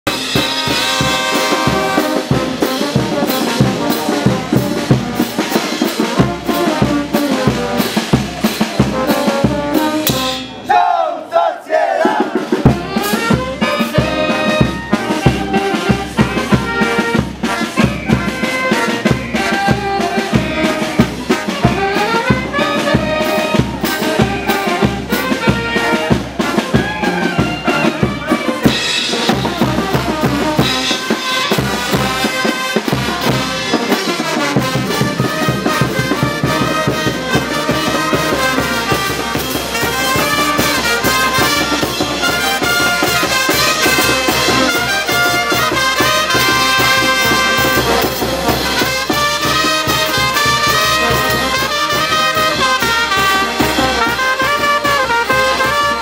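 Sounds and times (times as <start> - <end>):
drums and cymbals beat: 0.0 - 10.7, 12.0 - 56.0
brass instruments: 0.0 - 56.0.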